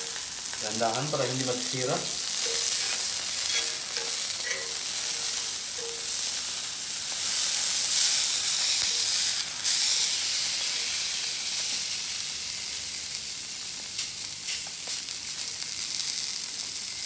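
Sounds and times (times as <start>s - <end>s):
fish sizzling on a grill plate: 0.0s - 17.0s.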